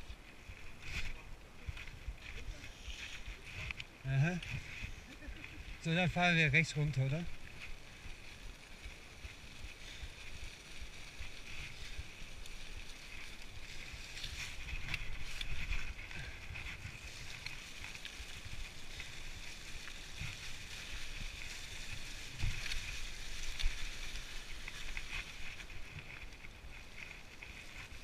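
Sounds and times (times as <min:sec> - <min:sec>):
tyres rustling through leaves: 0:00.0 - 0:28.0
wind rumble on microphone: 0:00.0 - 0:28.0.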